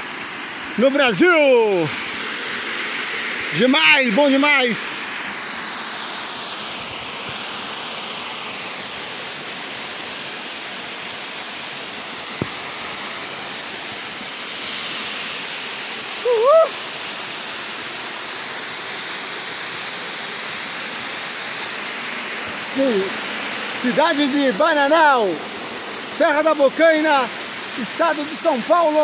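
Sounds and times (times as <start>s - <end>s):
waterfall pouring: 0.0s - 29.0s.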